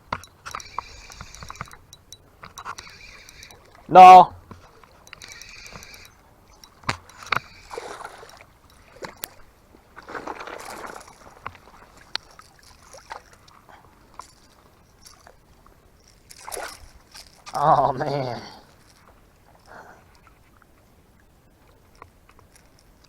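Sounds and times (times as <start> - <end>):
water sloshing: 0.0 - 23.0.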